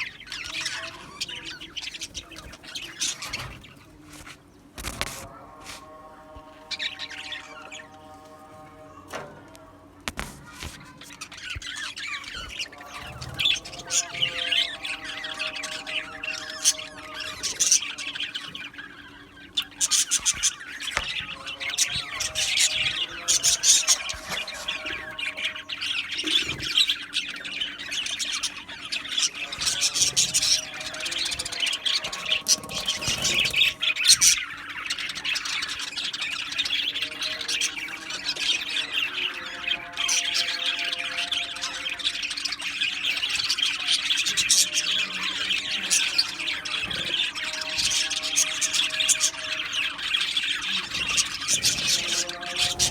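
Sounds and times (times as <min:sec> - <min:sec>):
budgerigars chattering and chirping: 0:00.0 - 0:09.4, 0:10.1 - 0:52.9.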